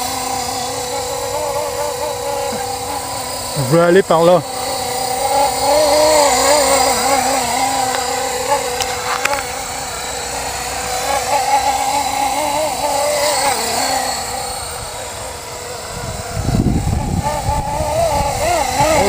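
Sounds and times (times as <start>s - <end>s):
model helicopter motor whine: 0.0s - 19.0s.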